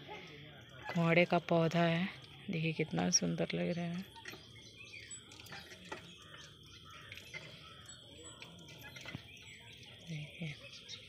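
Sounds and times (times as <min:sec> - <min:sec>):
birds chirping faintly: 0:00.0 - 0:11.0
faint distant voices: 0:00.0 - 0:11.0.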